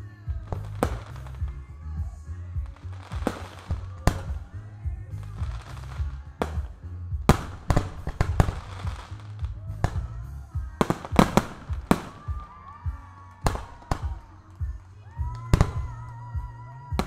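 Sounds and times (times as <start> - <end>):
firework shells booming: 0.3 - 17.0.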